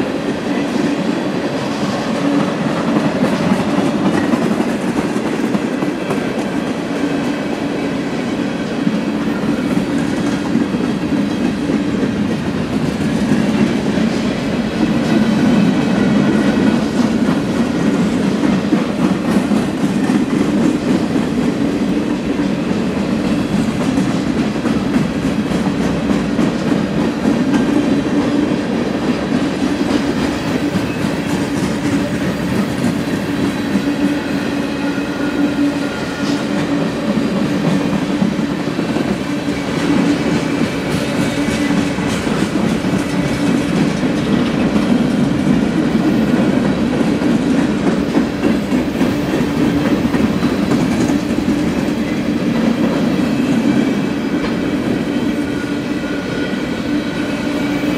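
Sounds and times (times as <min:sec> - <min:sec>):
freight train wheels rumbling on rail: 0:00.0 - 0:57.9.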